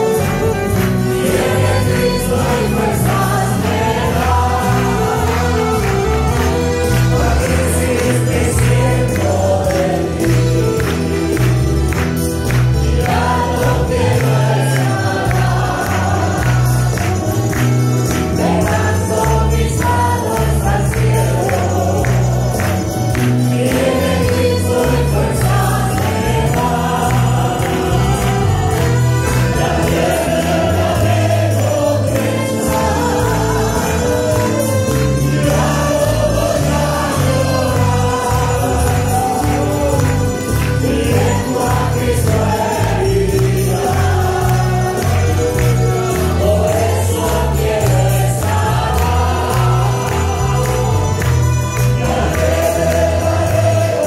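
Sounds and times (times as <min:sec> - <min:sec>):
accordion: 0:00.0 - 0:54.0
congregation singing gospel chorus: 0:00.0 - 0:54.0
guitar: 0:00.0 - 0:54.0
rhythmic percussion: 0:00.0 - 0:54.0.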